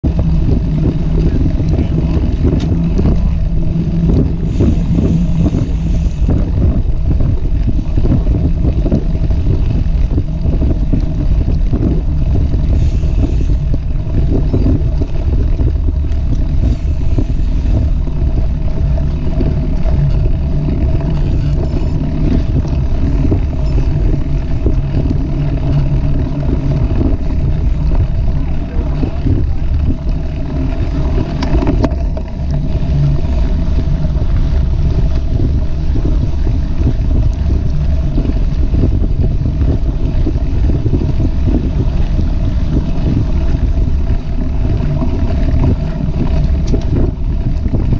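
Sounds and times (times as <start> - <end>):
bike tyres rumbling on dirt: 0.0 - 47.9
low hum: 0.0 - 47.9
wind buffeting microphone: 0.0 - 47.9.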